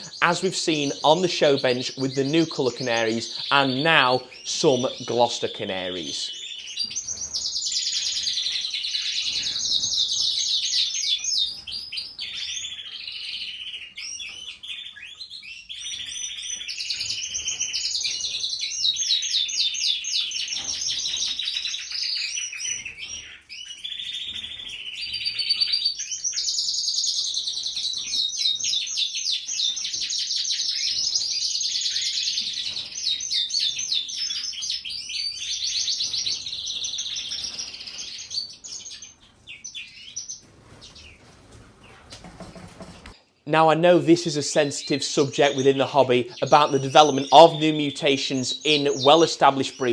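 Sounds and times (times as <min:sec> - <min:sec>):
canary trilling song: 0:00.0 - 0:43.4, 0:44.2 - 0:49.9.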